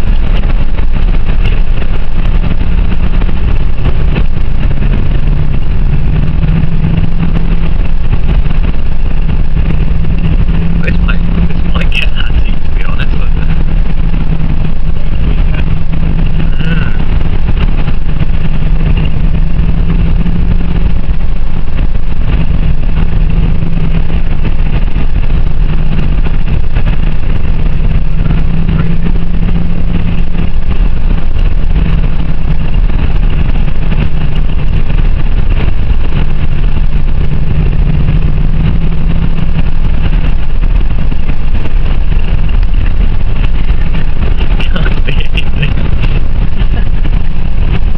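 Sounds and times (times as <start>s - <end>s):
car engine drone: 0.0s - 47.9s
low road rumble: 0.0s - 47.9s.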